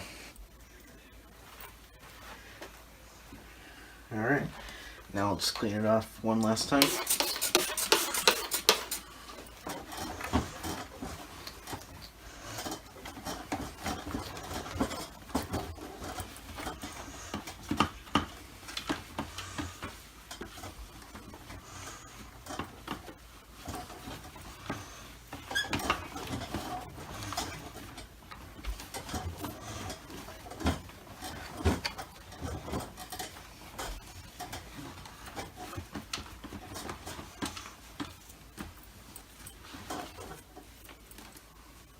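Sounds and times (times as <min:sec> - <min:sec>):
rubbing on plastic: 0:06.4 - 0:41.9.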